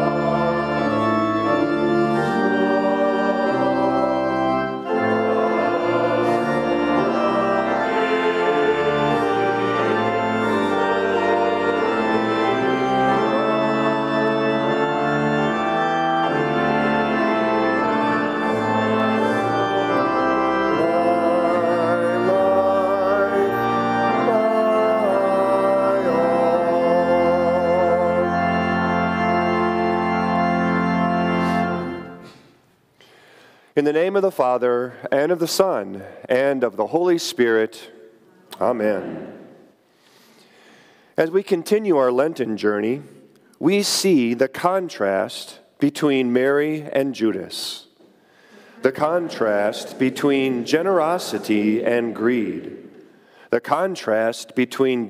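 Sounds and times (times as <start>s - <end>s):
church organ playing a hymn: 0.0s - 55.0s.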